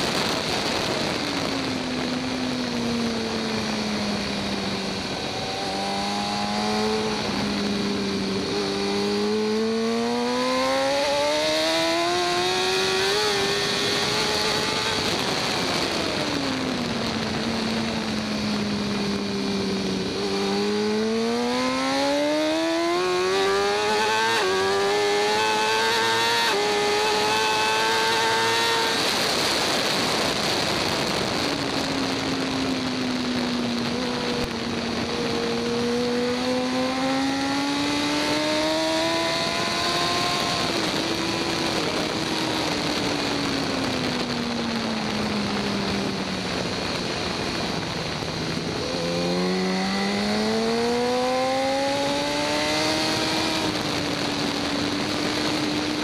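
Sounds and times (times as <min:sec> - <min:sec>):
motorcycle engine revving: 0:00.0 - 0:56.0
wind rushing: 0:00.0 - 0:56.0.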